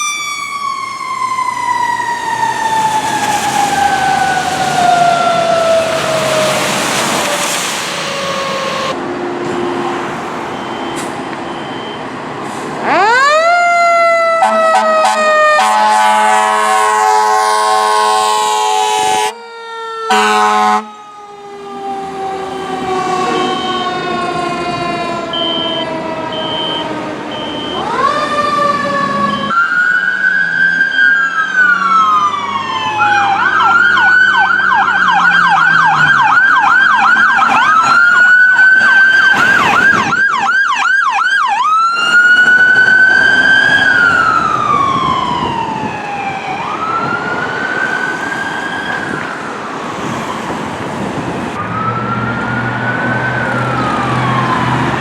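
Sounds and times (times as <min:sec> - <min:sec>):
fire truck siren wailing and yelping: 0:00.0 - 0:09.1, 0:10.0 - 0:55.0.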